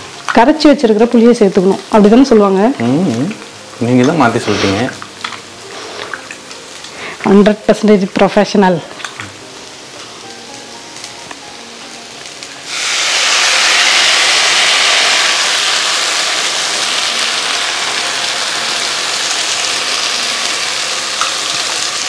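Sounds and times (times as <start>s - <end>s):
loud sizzle in hot oil: 0.0s - 22.0s.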